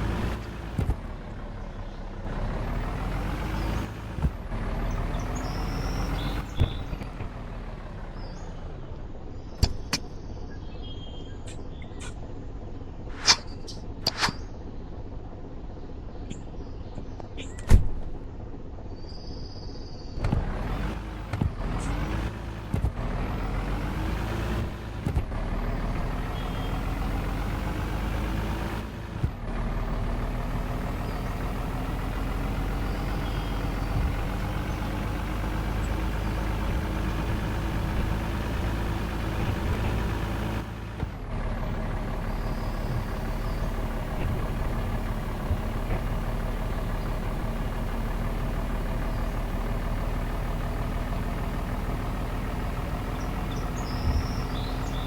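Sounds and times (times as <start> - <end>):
truck engine shifting gears: 0.0 - 55.0.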